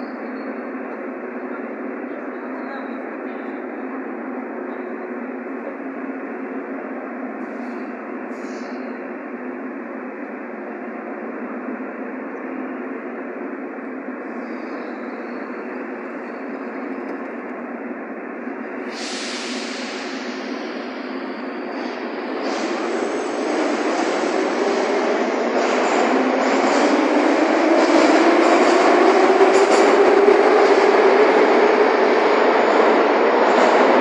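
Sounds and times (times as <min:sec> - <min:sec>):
metro platform noise: 0:00.0 - 0:34.0.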